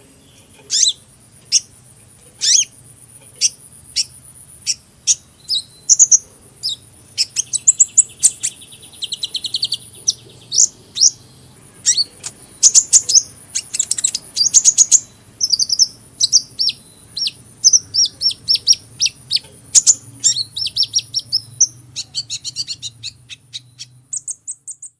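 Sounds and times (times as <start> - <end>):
faint high whine: 0.0 - 24.9
bird chirping and trilling: 0.2 - 1.8, 2.4 - 24.9.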